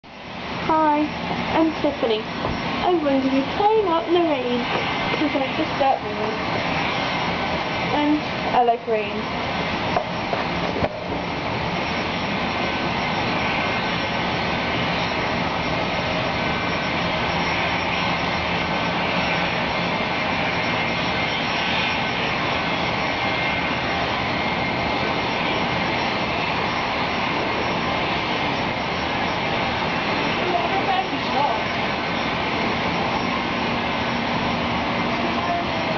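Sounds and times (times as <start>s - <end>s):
rain falling steadily: 0.1s - 35.9s.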